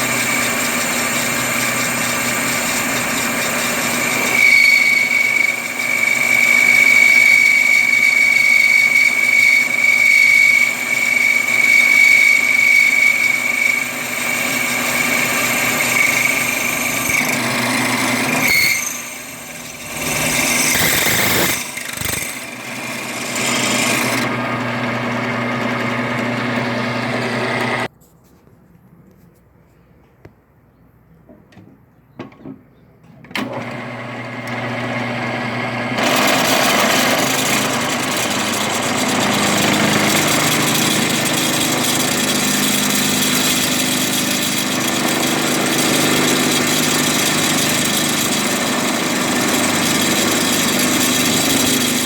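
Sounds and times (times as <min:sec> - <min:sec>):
power tool whining on steel disc: 0:00.0 - 0:27.9, 0:33.4 - 0:52.0.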